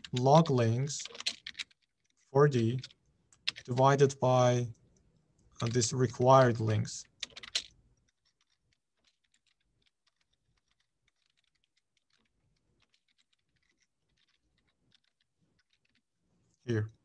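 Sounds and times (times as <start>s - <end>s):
faint keyboard typing: 0.0s - 17.0s.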